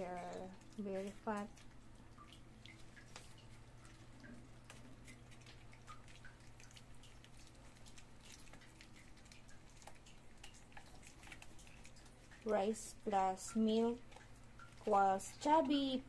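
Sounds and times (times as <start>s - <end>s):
low steady hum: 0.0s - 16.0s
puppies eating clicks: 0.0s - 16.0s.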